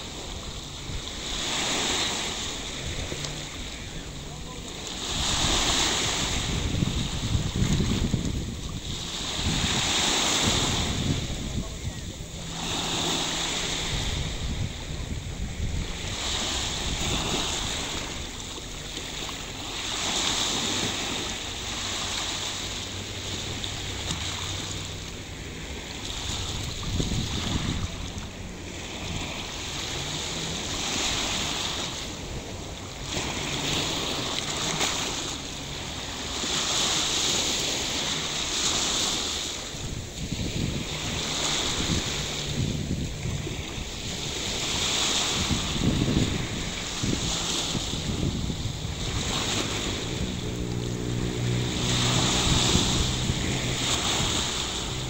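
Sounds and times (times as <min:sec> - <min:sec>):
sea waves washing onto beach: 0:00.0 - 0:55.0
wind rumbling on microphone: 0:00.0 - 0:55.0.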